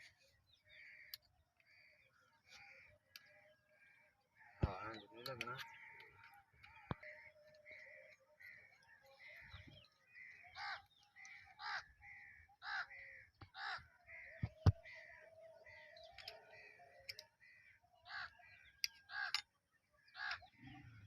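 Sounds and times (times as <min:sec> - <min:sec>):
crows cawing: 0:00.0 - 0:21.0.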